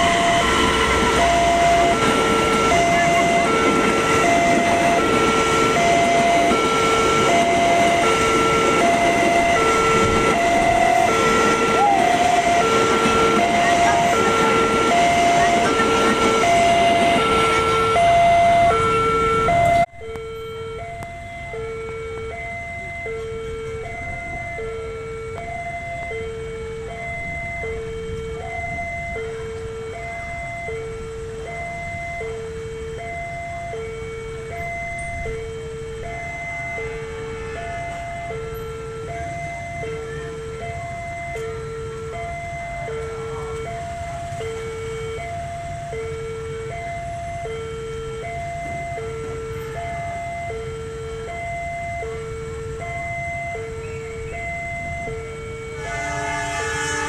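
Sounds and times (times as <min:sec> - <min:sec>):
level crossing alarm beeping: 0:00.0 - 0:57.0
passing train: 0:00.0 - 0:57.0.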